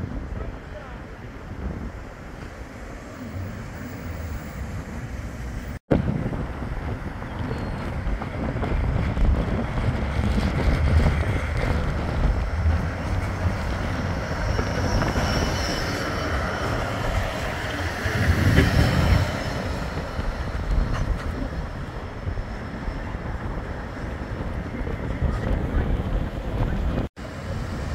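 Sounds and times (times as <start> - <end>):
tram running on rails: 0.0 - 27.9
wind rumbling on microphone: 0.0 - 27.9.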